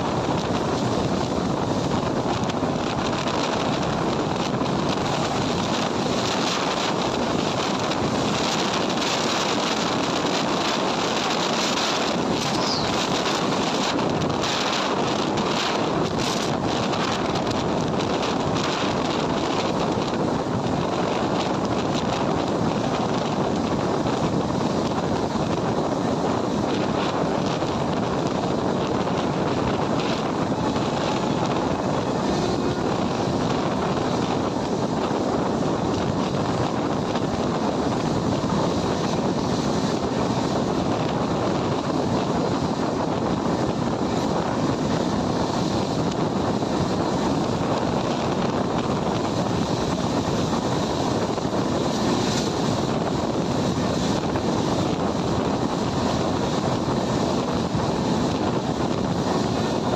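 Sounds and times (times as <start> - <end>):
moving train running noise: 0.0 - 59.9
wind on microphone: 0.0 - 59.9.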